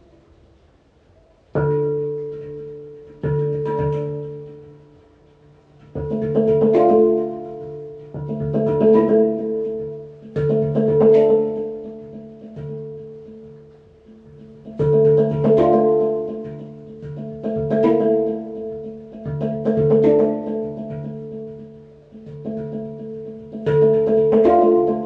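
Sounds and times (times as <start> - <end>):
slow instrumental music: 1.4 - 25.0.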